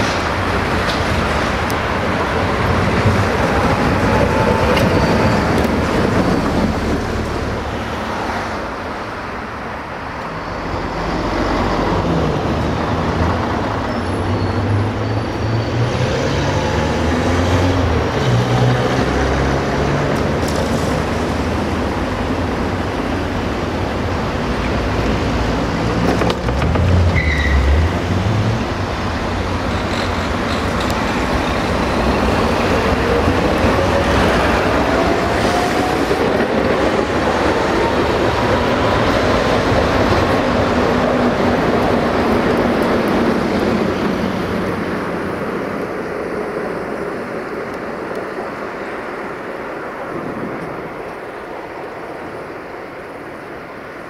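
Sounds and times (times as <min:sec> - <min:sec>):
traffic noise: 0:00.0 - 0:54.0
trams passing: 0:00.0 - 0:54.0.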